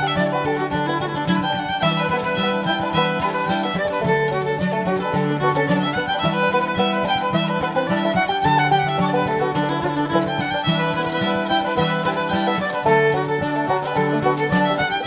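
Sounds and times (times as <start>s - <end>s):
lively fiddle tune: 0.0s - 15.0s
plucked string accompaniment: 0.0s - 15.0s.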